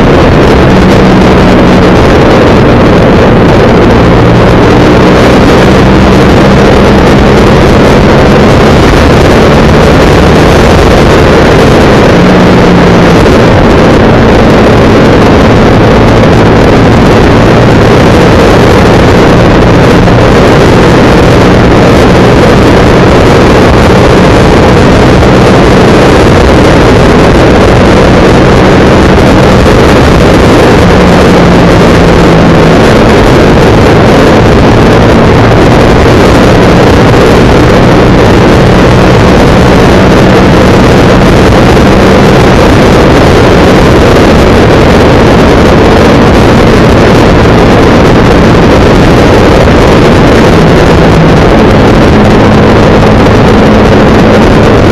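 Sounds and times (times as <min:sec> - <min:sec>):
motorcycle engine cruising: 0:00.0 - 0:49.7
wind rush: 0:00.0 - 0:54.9.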